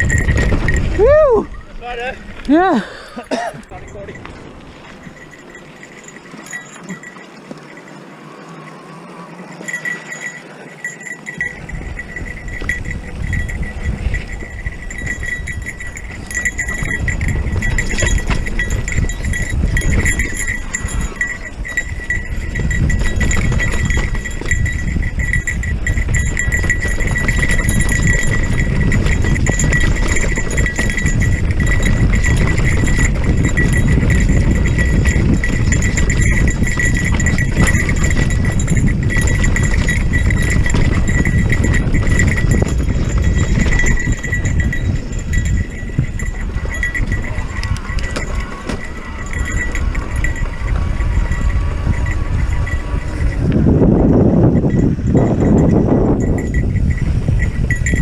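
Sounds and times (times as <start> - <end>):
bike rattling over rocks: 0.0 - 2.6, 3.7 - 8.5, 9.4 - 58.0
wind rumble: 0.0 - 58.0.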